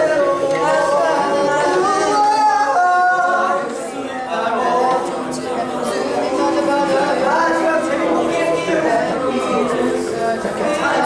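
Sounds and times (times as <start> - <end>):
men singing unaccompanied: 0.0 - 11.0.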